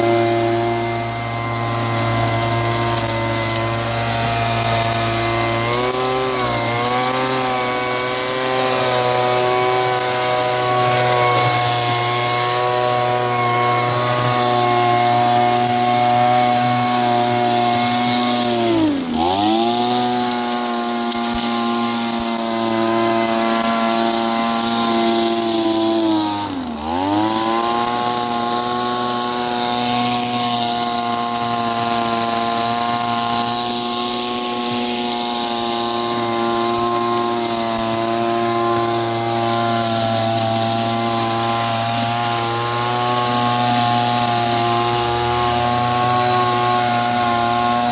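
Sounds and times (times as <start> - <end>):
leaf blower engine buzzing: 0.0 - 47.9.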